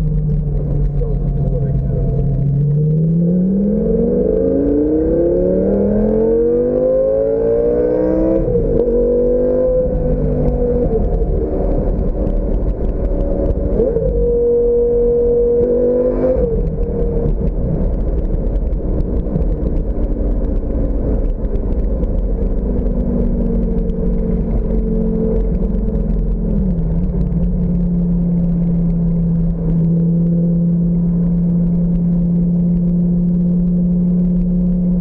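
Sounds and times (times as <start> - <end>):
car engine running: 0.0 - 35.0
wind and road noise: 0.0 - 35.0.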